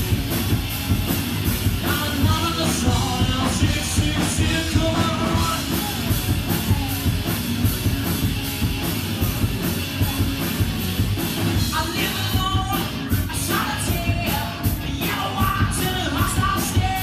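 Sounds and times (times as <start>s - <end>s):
drums keeping a steady beat: 0.0s - 17.0s
electric guitars: 0.0s - 17.0s.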